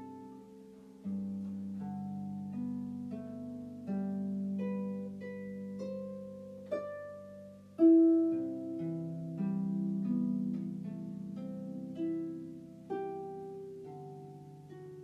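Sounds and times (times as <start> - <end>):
harp music: 0.0 - 15.0.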